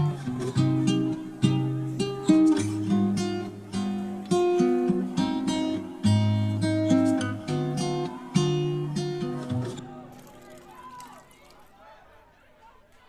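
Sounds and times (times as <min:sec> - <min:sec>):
acoustic guitar music: 0:00.0 - 0:10.8.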